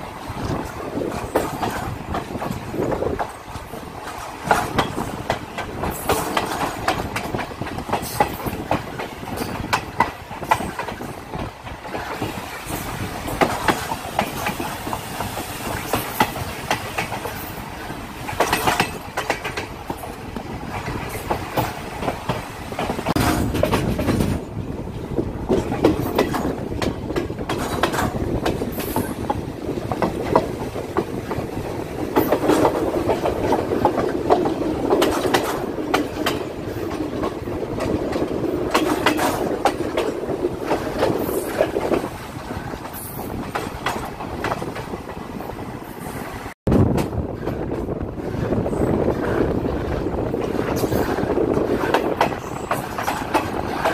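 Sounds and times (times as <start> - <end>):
wheels clicking over rail joints: 0.0 - 45.8, 46.7 - 53.9
train rumbling on track: 0.0 - 53.9.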